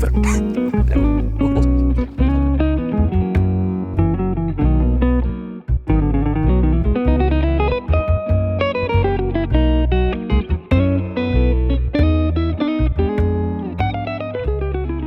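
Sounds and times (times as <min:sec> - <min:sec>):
guitar-led music with heavy bass: 0:00.0 - 0:15.0.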